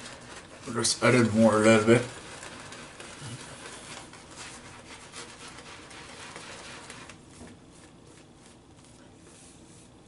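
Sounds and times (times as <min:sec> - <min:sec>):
shaving brush scrubbing lather: 0:00.0 - 0:10.0.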